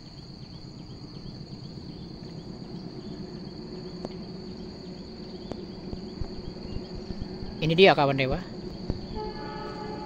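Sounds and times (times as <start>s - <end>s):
insects droning: 0.0s - 10.0s
low rumble: 0.0s - 10.0s.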